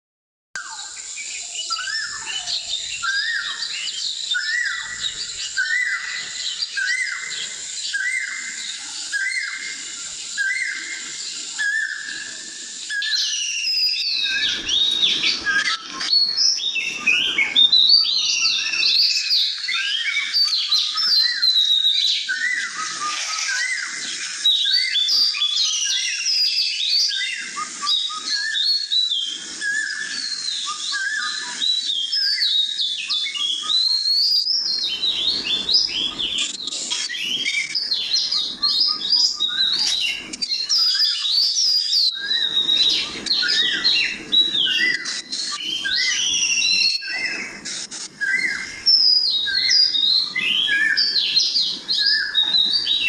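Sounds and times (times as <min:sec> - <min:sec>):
birds chirping: 0:00.6 - 0:53.0
sweeping bird whistles: 0:00.6 - 0:53.0.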